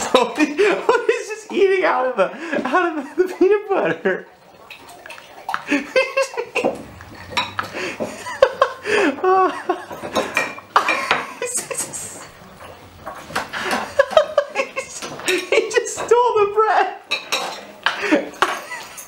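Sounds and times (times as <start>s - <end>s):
dishes and cutlery clinking: 0.0s - 1.8s, 2.5s - 19.0s.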